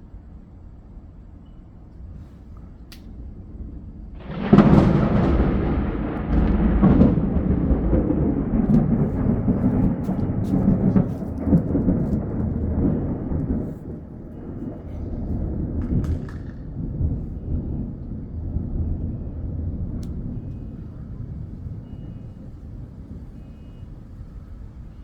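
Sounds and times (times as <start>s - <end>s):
thunderclap with rolling rumble: 0.0s - 25.0s.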